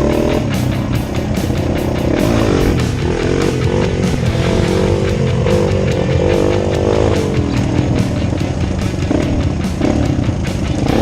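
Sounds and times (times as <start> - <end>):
engine running and revving: 0.0 - 11.0
rock music: 0.0 - 11.0.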